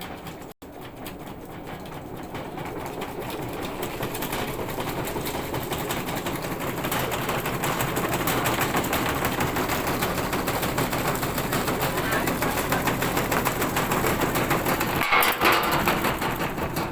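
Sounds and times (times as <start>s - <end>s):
washing machine rattling in spin: 0.0s - 16.9s.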